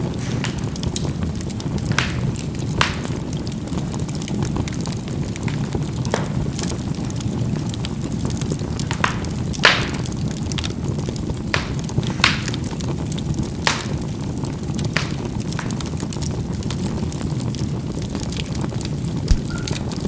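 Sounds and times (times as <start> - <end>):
charcoal pops and crackles: 0.0 - 20.0
low rumble of fire: 0.0 - 20.0.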